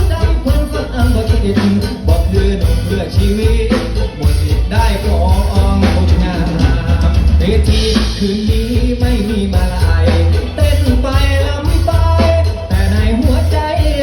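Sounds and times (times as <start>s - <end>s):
heavy bass and drum beat: 0.0s - 14.0s
live band over amplified pa: 0.0s - 14.0s.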